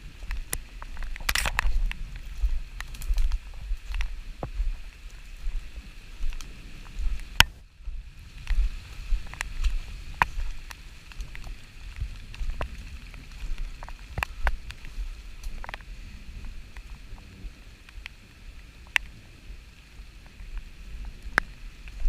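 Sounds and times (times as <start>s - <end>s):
rain falling: 0.0s - 22.0s
raindrops ticking close by: 0.0s - 22.0s
wind rumble on microphone: 0.0s - 22.0s.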